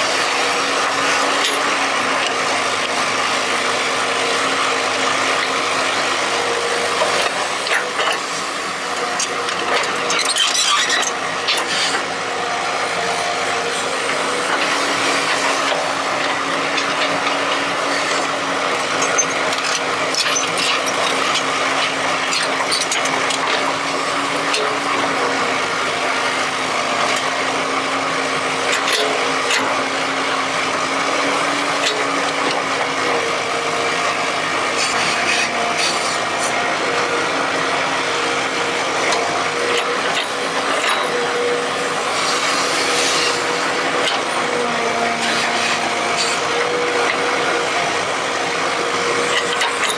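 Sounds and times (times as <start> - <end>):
excavator engine droning: 0.0 - 49.9.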